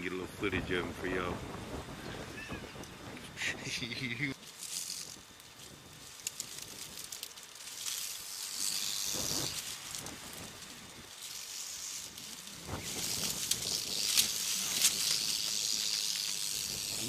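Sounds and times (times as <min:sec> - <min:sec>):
rattlesnake rattling: 0:00.7 - 0:17.0.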